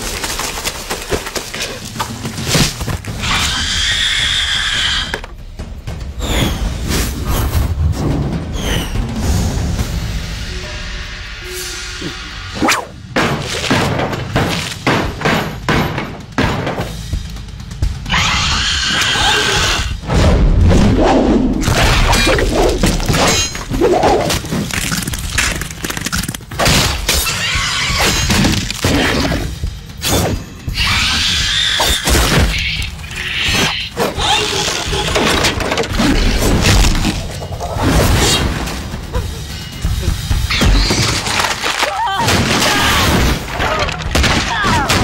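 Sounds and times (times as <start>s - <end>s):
dramatic film score: 0.0s - 45.0s.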